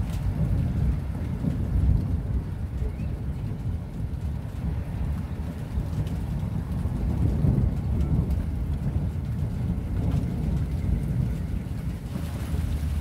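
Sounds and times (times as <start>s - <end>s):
raindrops ticking: 0.0s - 13.0s
thunder rumbling: 0.0s - 13.0s.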